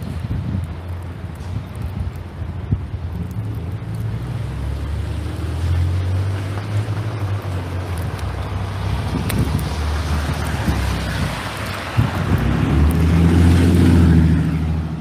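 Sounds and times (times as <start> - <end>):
wind buffeting microphone: 0.0 - 4.6, 6.6 - 15.0.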